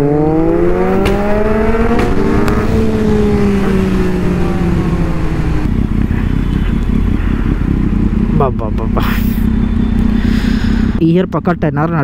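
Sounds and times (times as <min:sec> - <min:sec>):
motorcycle engine: 0:00.0 - 0:11.0
wind and road noise: 0:00.0 - 0:12.0.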